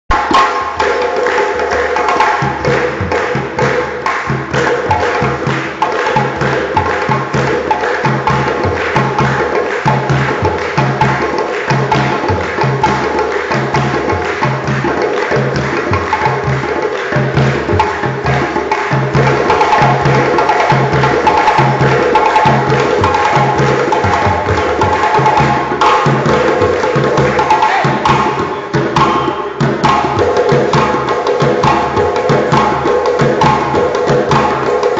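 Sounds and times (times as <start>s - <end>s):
hand drums rhythm: 0.1s - 34.9s
wood block strikes: 0.1s - 34.9s.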